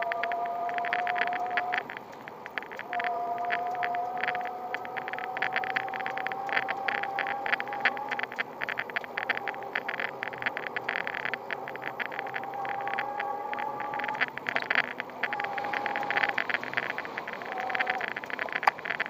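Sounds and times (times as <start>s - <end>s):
bicycle rattling over brick paving: 0.0s - 19.0s
steady wavering whine: 0.0s - 19.0s.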